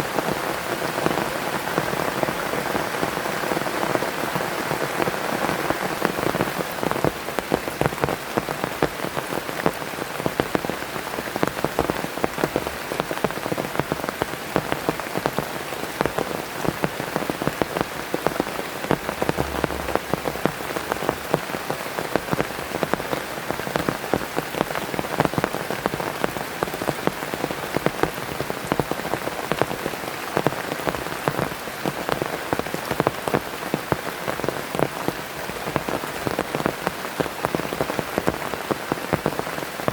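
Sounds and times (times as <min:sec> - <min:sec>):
heavy rain falling: 0:00.0 - 0:39.9
raindrops striking surface: 0:00.1 - 0:39.9.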